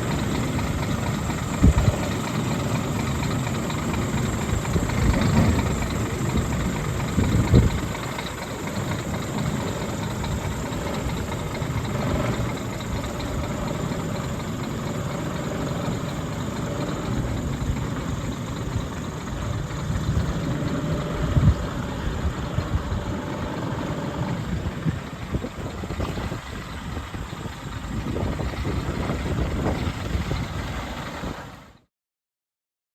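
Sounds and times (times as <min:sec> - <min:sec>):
diesel truck engine idling: 0:00.0 - 0:31.9.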